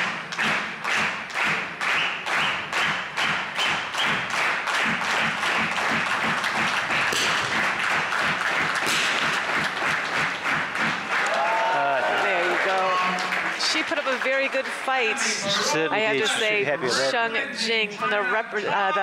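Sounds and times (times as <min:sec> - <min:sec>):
applause: 0:00.0 - 0:15.6
rhythmic clapping: 0:00.0 - 0:15.6.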